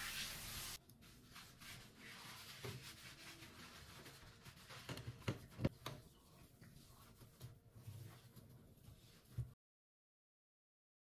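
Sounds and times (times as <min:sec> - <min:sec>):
sponge scrubbing glass hob: 0:00.0 - 0:09.6.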